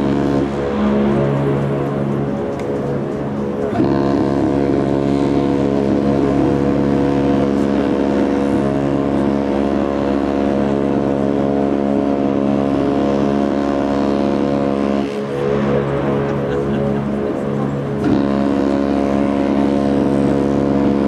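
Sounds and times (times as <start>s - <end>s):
ship horn blast: 0.0s - 21.0s.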